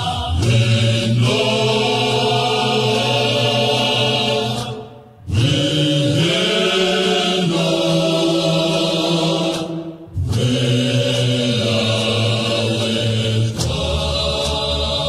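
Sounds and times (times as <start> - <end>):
male choir singing in harmony: 0.0 - 15.0.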